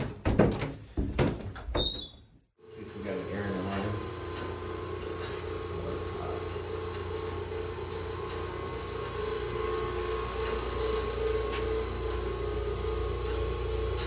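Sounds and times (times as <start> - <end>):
machinery hum: 2.6 - 14.0.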